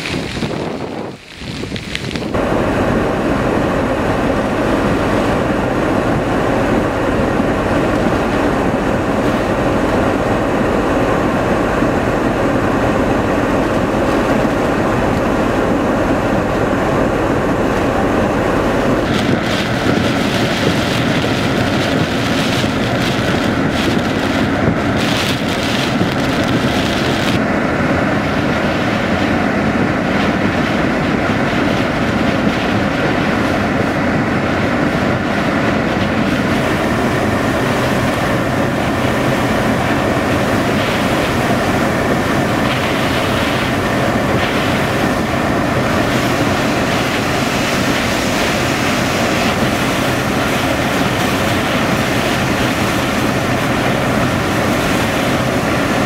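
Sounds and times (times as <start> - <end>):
wind and rain blowing hard: 0.0 - 56.0
wind buffeting microphone: 0.0 - 56.0.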